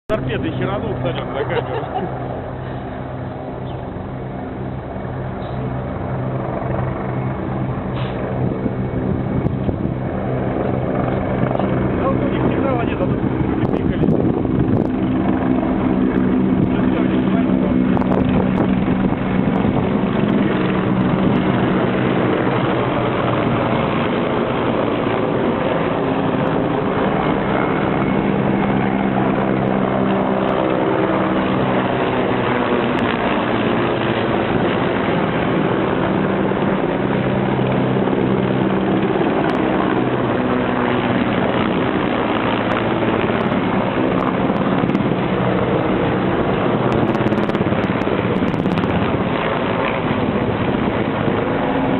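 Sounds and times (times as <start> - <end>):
helicopter drone: 0.1 - 51.9.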